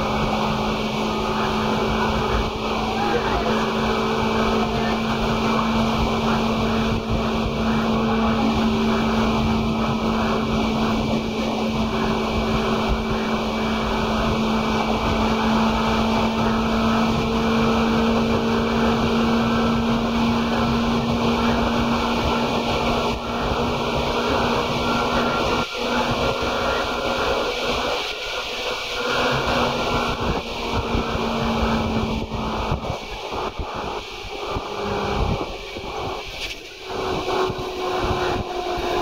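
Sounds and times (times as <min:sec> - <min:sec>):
steady train hum: 0:00.0 - 0:39.0
train wheels rumbling: 0:00.0 - 0:39.0.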